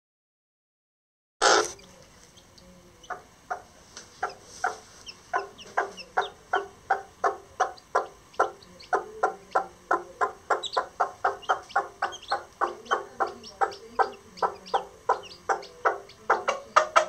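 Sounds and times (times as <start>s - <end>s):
hen clucking: 1.4s - 17.0s.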